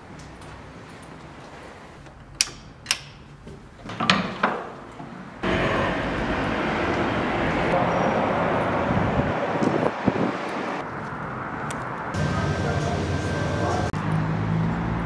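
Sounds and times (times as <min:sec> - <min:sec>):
traffic background noise: 0:00.0 - 0:15.0.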